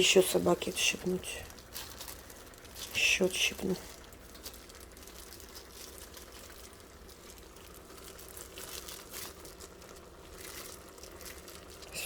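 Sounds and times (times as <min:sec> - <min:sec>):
low steady hum: 0:00.0 - 0:12.0
minced meat being handled: 0:00.5 - 0:12.0.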